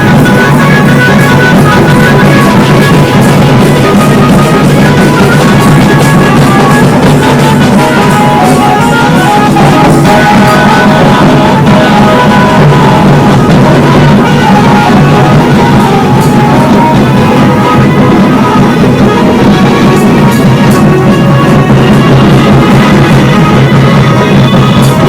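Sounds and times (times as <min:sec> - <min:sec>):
distorted melody line: 0:00.0 - 0:25.0
fast drumming: 0:00.0 - 0:25.0.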